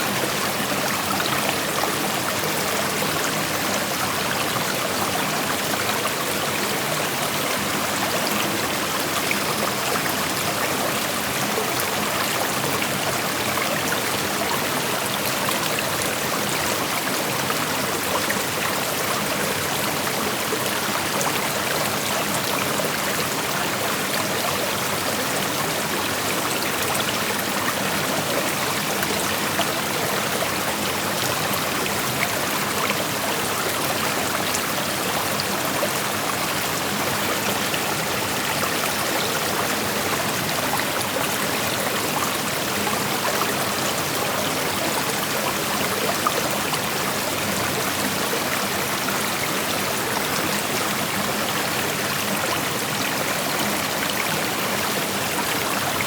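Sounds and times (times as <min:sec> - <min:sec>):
creek water rushing over rocks: 0:00.0 - 0:56.0.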